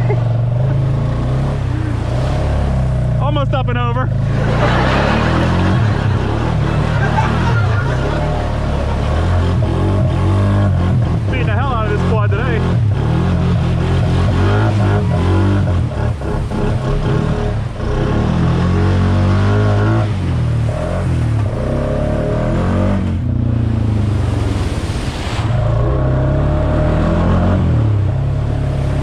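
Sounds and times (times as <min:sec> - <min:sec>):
atv engine revving: 0:00.0 - 0:24.6, 0:25.6 - 0:29.0.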